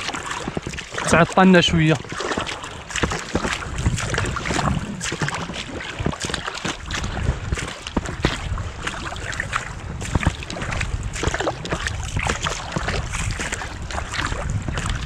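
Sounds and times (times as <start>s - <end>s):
water sloshing and splashing: 0.0s - 15.0s
wind buffeting microphone: 0.0s - 15.0s.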